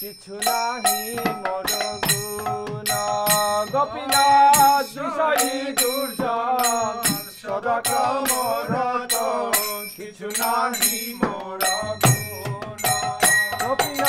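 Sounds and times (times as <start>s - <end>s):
percussion strikes: 0.0s - 14.0s
wavering devotional melody: 0.0s - 14.0s.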